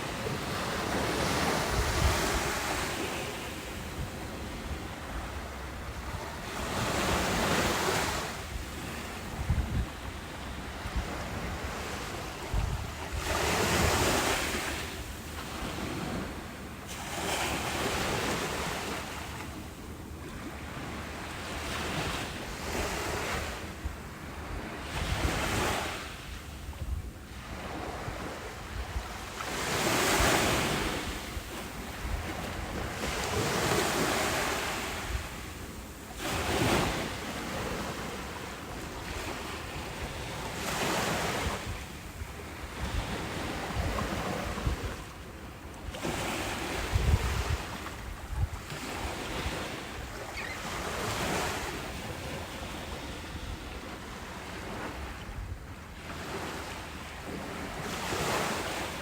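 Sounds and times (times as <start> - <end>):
wind rumble on microphone: 0.0 - 19.4, 20.2 - 59.0
ocean surf breaking on beach: 0.0 - 19.8, 27.3 - 59.0.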